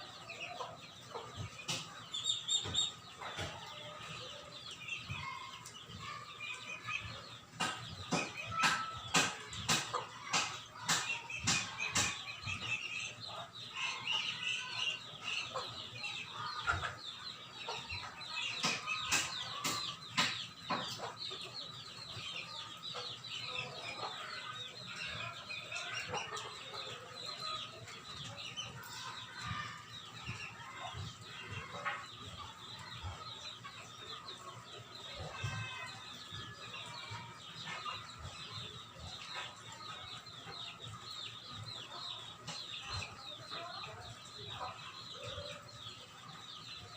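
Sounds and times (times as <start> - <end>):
high animal chirps and clucks: 0.0 - 46.9.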